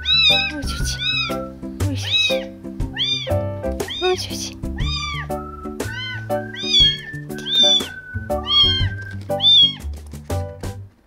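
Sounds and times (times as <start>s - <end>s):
kitten mewing: 0.0s - 9.9s
background music: 0.0s - 11.0s.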